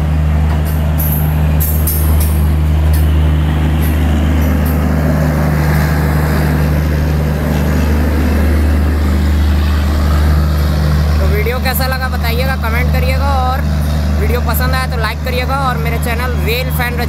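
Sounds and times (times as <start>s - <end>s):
diesel generators droning: 0.0s - 17.0s
wheels on rails: 0.0s - 17.0s.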